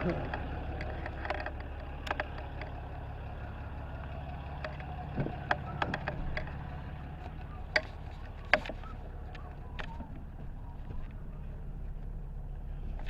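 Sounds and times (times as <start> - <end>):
light clicks and knocks: 0.0 - 12.1
truck engine rumbling: 0.0 - 13.0.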